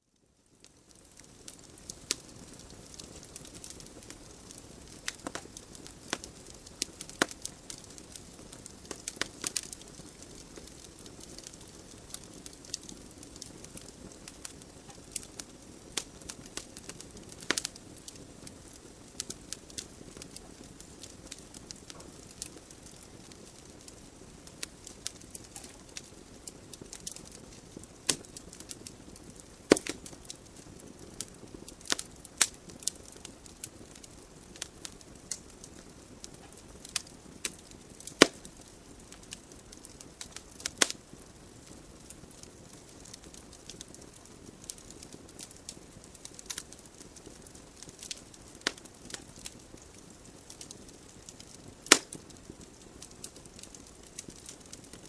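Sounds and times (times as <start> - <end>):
logs crackling and popping: 0.2 - 55.0.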